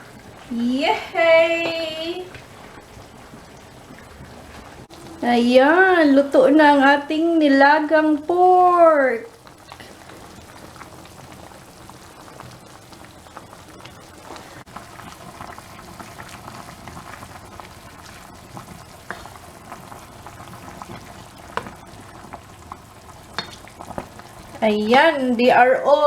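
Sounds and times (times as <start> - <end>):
soup boiling and bubbling: 0.0 - 26.0.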